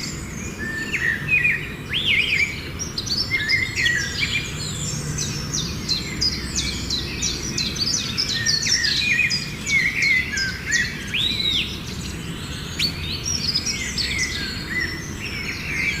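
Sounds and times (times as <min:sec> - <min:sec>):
many birds chirping: 0:00.0 - 0:16.0.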